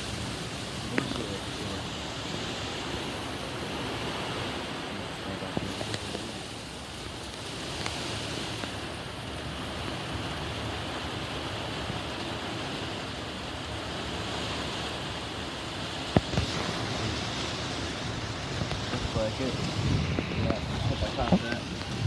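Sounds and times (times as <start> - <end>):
wind-driven rain: 0.0 - 22.0.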